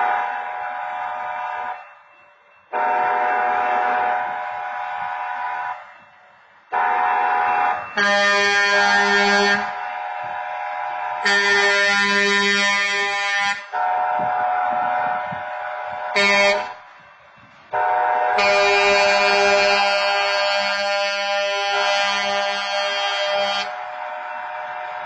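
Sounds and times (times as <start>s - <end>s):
air horn blasts: 0.0s - 1.8s, 2.7s - 5.9s, 6.7s - 16.9s, 17.7s - 25.0s.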